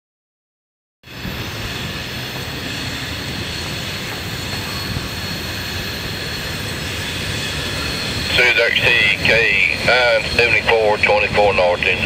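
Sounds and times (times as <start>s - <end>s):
distant freight train rumble: 1.0s - 12.0s.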